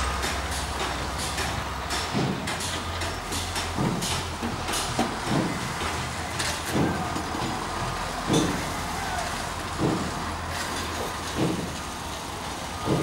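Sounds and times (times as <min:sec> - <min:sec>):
construction machinery engine hum: 0:00.0 - 0:13.0.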